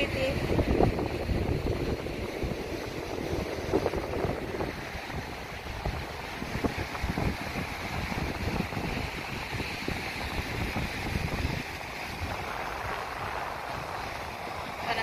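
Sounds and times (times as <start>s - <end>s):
wind buffeting microphone: 0.0s - 15.0s
surf breaking: 0.4s - 15.0s.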